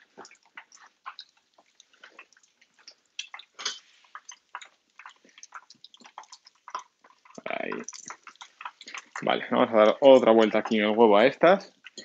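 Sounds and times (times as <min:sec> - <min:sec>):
bread frying in hot oil: 0:00.0 - 0:12.0.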